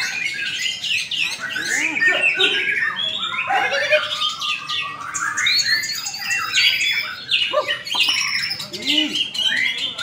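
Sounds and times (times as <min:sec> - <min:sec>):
birds singing: 0:00.0 - 0:10.0.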